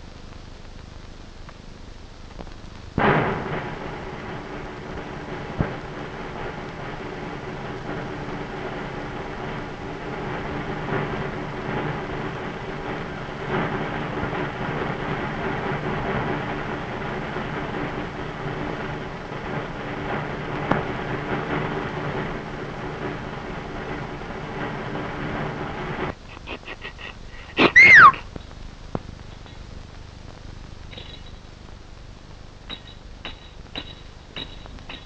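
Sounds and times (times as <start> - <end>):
low hum: 0.0 - 34.9
film soundtrack hiss and crackle: 0.0 - 35.0.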